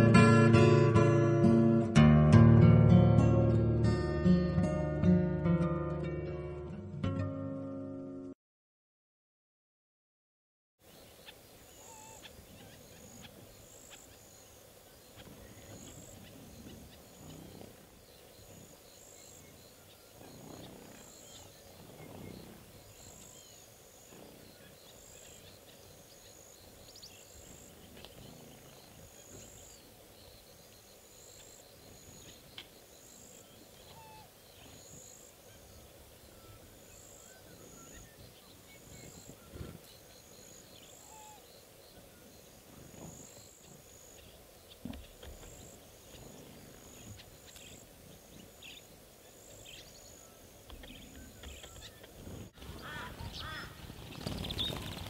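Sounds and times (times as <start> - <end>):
small birds twittering: 10.9 - 55.0.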